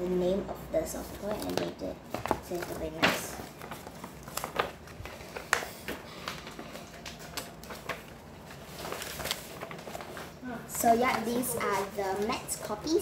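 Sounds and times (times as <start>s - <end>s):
paper sheets rustling: 0.9s - 13.0s.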